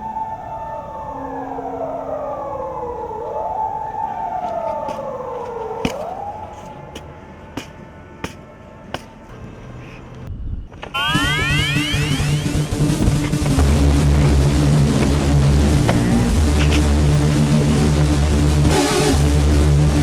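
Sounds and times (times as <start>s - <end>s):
emergency siren wailing: 0.0s - 9.8s, 10.9s - 20.0s
steady siren tone: 0.0s - 10.2s, 10.8s - 20.0s.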